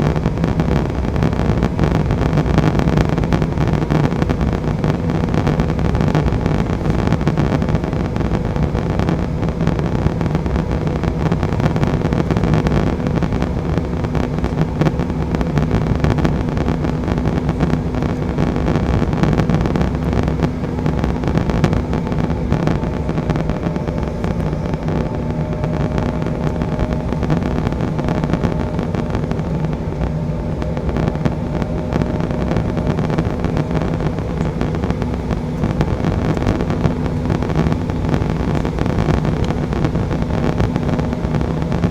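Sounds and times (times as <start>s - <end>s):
faint high whine: 0.0s - 41.9s
jet engines humming: 0.0s - 41.9s.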